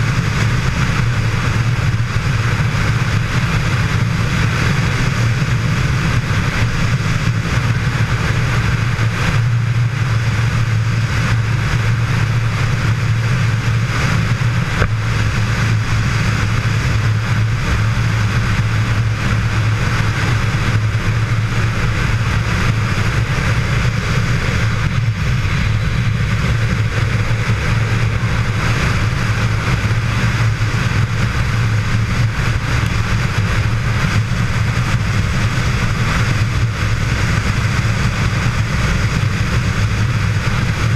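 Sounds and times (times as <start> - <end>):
motorcycle engine and road drone: 0.0 - 40.9
wind rushing past camera: 0.0 - 40.9.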